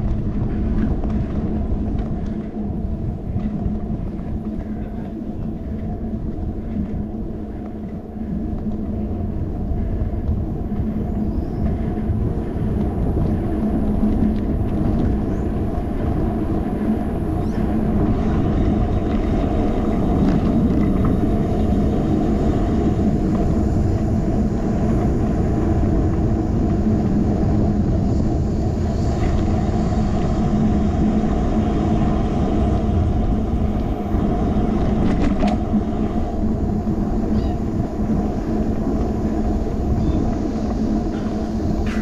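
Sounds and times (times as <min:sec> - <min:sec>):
wind and road noise: 0:00.0 - 0:42.0.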